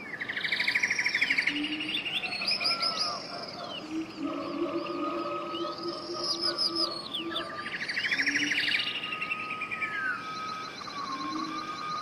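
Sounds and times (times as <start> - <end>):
bird trill: 0.0 - 12.0
faint steady tones humming: 0.0 - 12.0
wild birds singing: 0.0 - 12.0.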